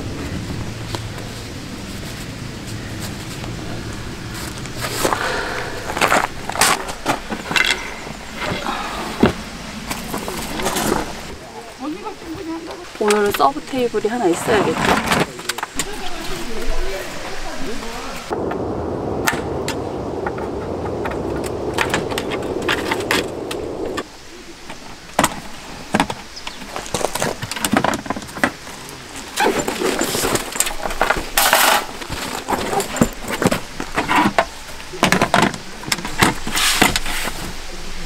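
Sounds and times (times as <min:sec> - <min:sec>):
steady rushing noise: 0:00.0 - 0:13.1, 0:13.8 - 0:38.0.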